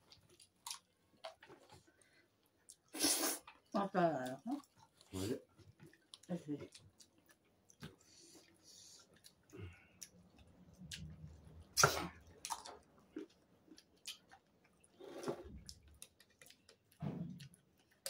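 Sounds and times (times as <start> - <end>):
wet chewing and lip smacks: 0.0 - 18.0.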